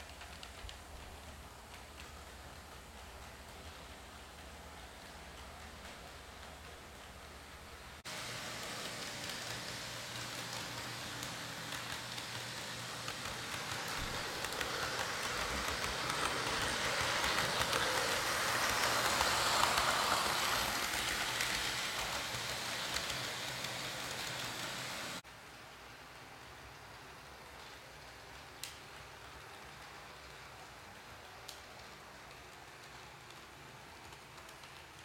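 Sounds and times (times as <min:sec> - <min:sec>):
model train wheels clicking on rails: 0:00.0 - 0:35.0.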